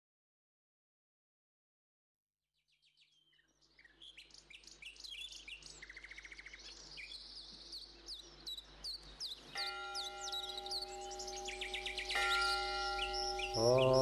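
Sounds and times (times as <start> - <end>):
songbirds chirping and twittering: 2.6 - 14.0.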